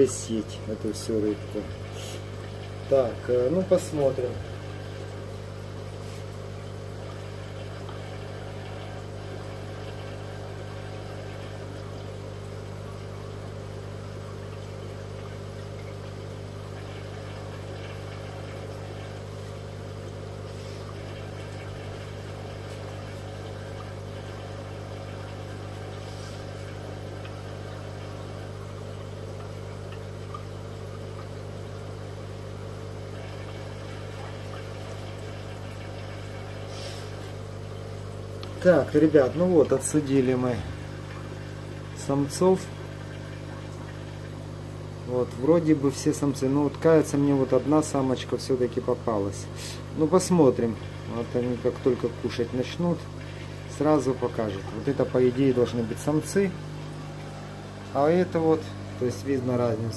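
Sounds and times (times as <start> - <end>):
aquarium air pump humming: 0.0 - 59.9.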